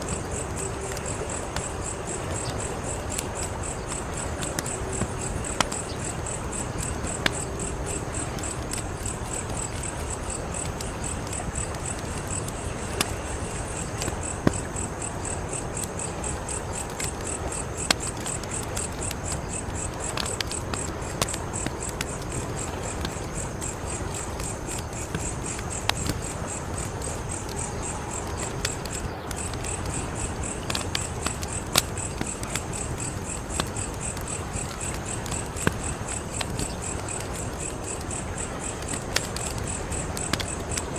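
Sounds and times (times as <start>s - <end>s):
crickets chirping: 0.0s - 40.9s
wood fire crackling: 0.0s - 40.9s.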